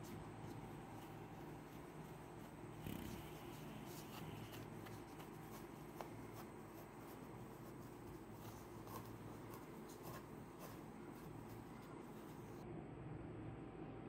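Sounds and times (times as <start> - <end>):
rag scrubbing headlight lens: 0.1 - 12.6.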